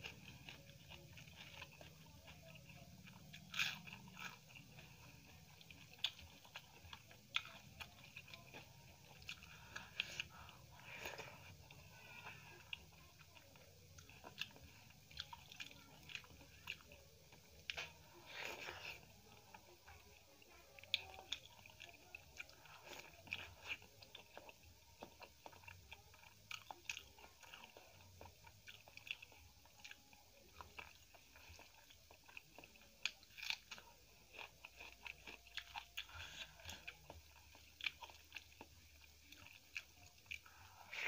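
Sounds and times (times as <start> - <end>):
chewing and crunching food: 0.0 - 41.0.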